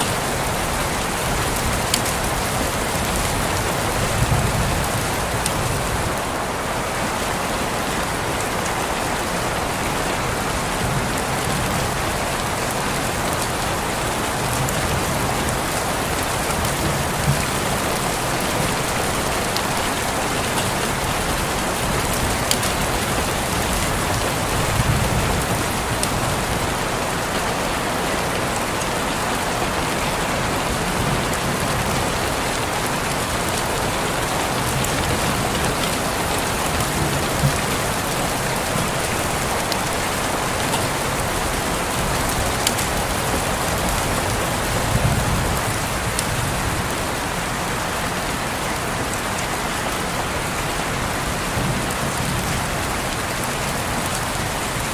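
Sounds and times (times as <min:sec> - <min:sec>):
rain pattering on a window: 0:00.0 - 0:54.9.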